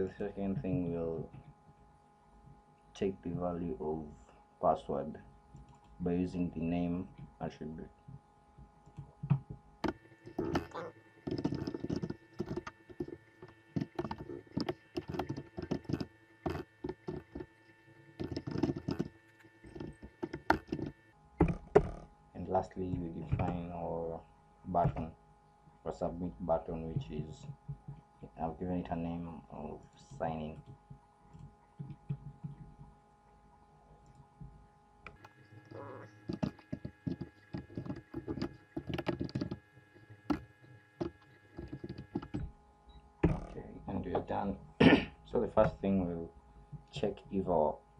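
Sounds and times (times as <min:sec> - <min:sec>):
steady electrical hum: 0:00.0 - 0:47.9.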